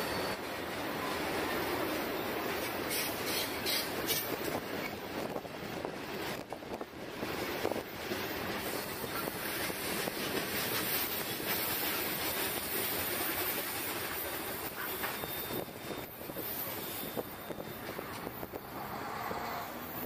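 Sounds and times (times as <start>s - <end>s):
steel wheels running over rails: 0.0s - 20.0s.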